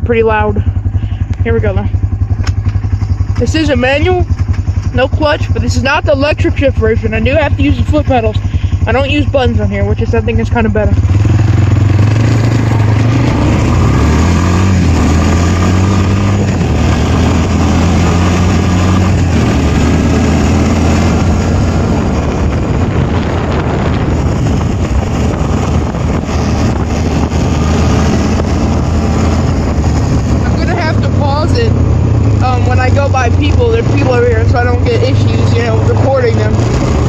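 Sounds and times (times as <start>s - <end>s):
quad bike engine running: 0.0s - 37.0s
wind noise on microphone: 0.0s - 37.0s.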